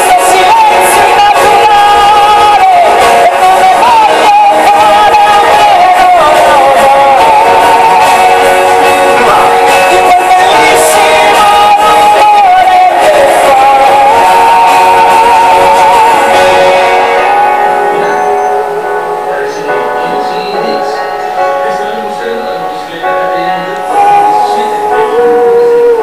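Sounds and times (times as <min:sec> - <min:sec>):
instrumental accompaniment: 0:00.0 - 0:26.0
man singing a slow ballad: 0:00.0 - 0:26.0.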